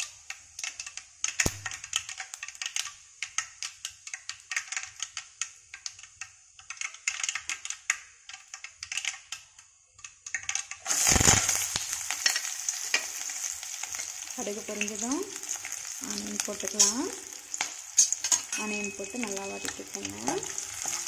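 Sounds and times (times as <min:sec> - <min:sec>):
loud sizzle of onions in oil: 0:00.0 - 0:21.0
seeds popping in hot oil: 0:00.0 - 0:21.0.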